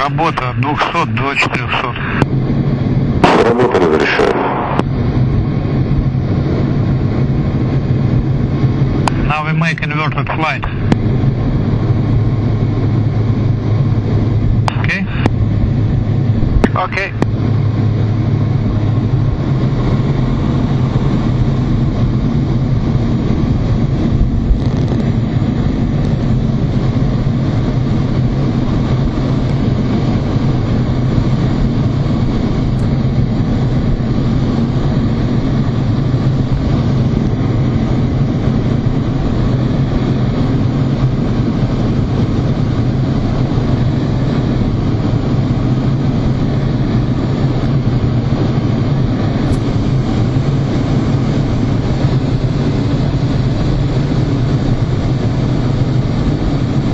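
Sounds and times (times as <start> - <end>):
jet cockpit engine noise: 0.0 - 56.9.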